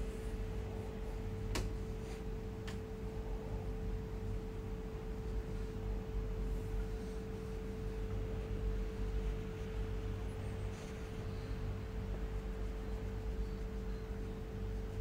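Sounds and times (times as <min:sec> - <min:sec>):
steady mid-pitched hum: 0:00.0 - 0:15.0.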